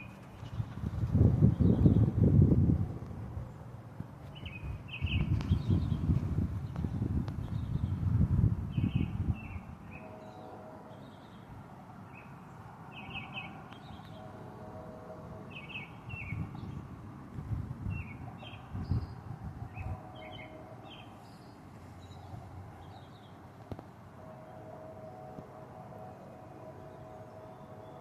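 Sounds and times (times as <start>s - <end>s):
songbirds chirping: 3.0s - 28.0s.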